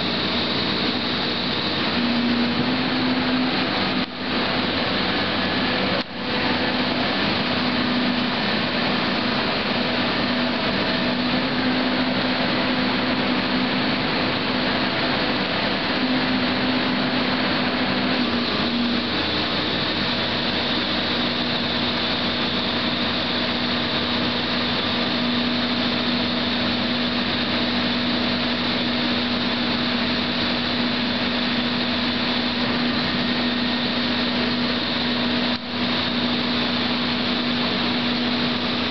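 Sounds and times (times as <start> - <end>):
vibratory hammer drone: 0.0 - 38.9
whining hydraulic tone: 0.0 - 38.9.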